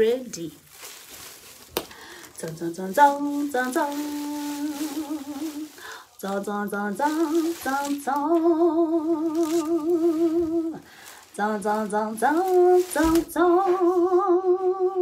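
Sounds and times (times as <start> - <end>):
woman singing wordless tune: 2.4 - 15.0.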